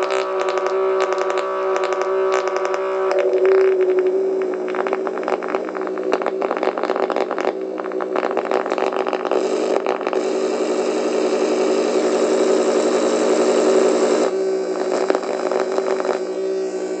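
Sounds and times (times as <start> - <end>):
fast crackling clicks: 0.0 - 10.4, 11.4 - 16.3
buzzy electronic droning tone: 0.0 - 17.0.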